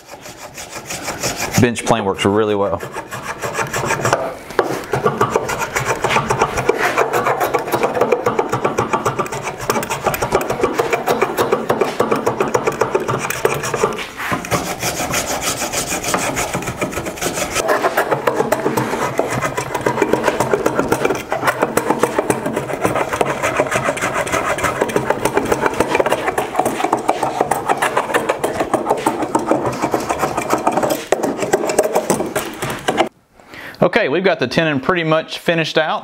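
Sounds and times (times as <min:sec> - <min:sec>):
plane rasping on wood: 0:00.0 - 0:01.8, 0:02.4 - 0:33.1.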